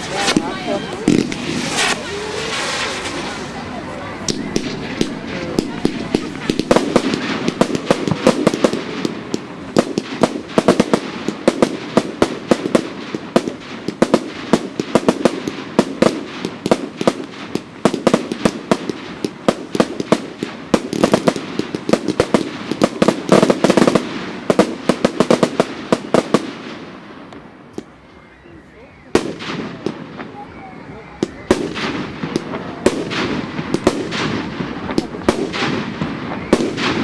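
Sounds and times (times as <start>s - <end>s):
fireworks crackling: 0.0s - 37.0s.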